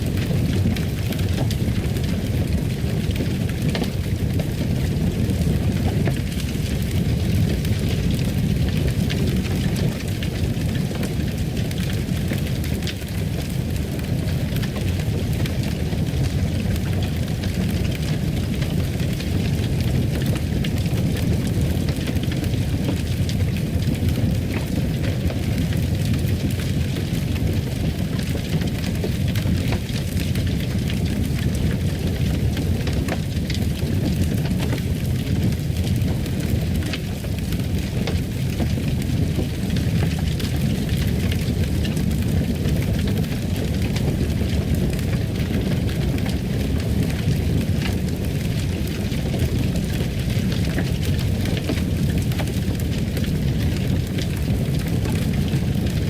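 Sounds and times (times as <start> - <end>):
fire burning with crackles: 0.0 - 56.0.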